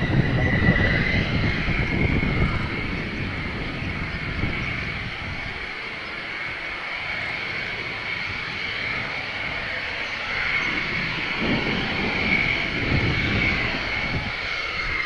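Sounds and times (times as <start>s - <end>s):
deep jet rumble: 0.0s - 15.0s
jet engine whine: 0.0s - 15.0s.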